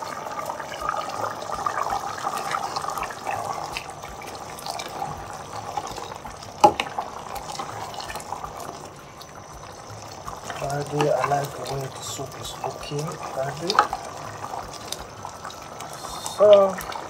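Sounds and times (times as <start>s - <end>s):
soup bubbling: 0.0s - 17.0s
ladle stirring soup: 0.4s - 15.9s.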